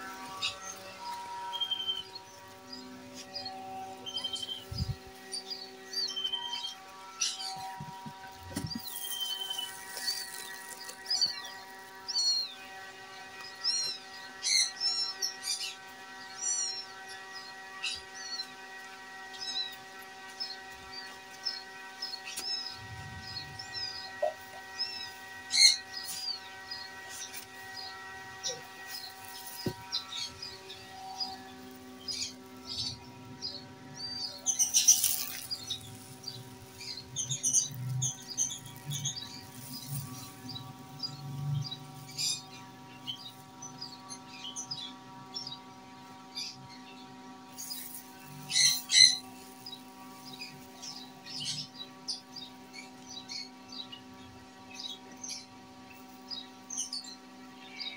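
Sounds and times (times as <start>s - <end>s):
faint steady hum: 0.0s - 57.9s
small birds chirping: 0.0s - 57.9s.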